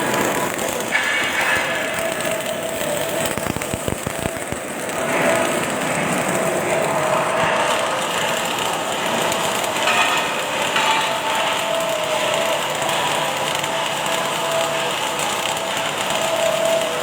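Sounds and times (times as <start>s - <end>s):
welding arc crackling and hissing: 0.0s - 17.0s.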